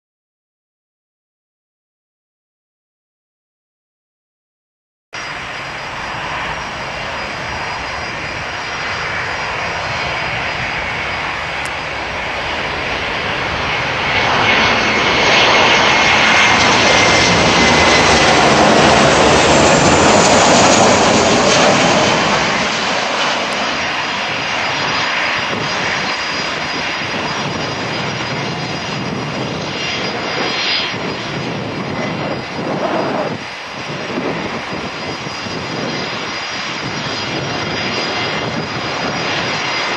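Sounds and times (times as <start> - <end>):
jet engine whine: 5.2 - 39.9
jet engines passing: 5.2 - 39.9.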